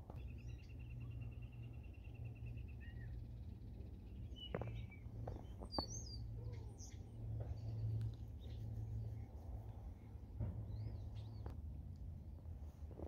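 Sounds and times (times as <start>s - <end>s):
songbirds chirping: 0.0s - 13.0s
steady low background hum: 0.0s - 13.0s.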